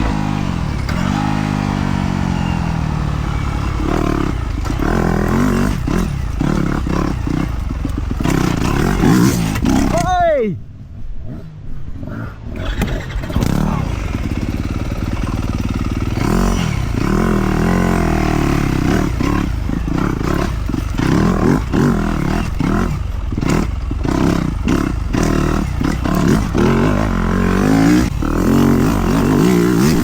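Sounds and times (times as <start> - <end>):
dirt bike engine revving: 0.0 - 10.4, 12.5 - 30.0.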